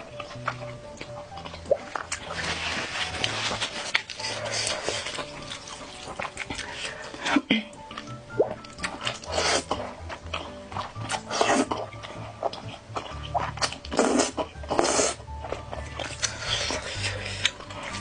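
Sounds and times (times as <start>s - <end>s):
background music: 0.0s - 18.0s
person eating noodles: 0.4s - 18.0s.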